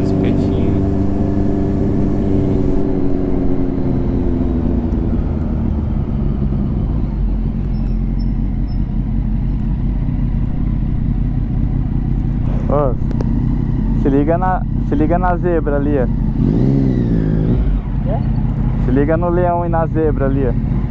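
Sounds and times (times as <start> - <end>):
car engine slowing: 0.0 - 20.9
road and tyre rumble: 0.0 - 20.9.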